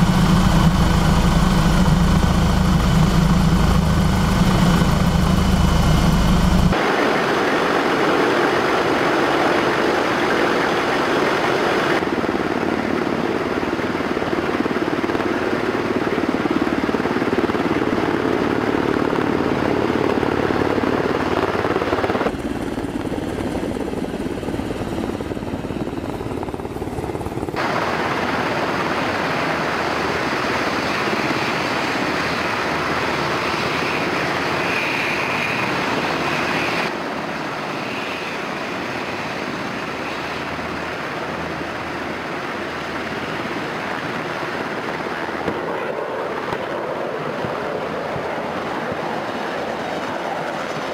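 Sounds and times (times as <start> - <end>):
helicopters rotor beat and turbine: 0.0 - 50.9.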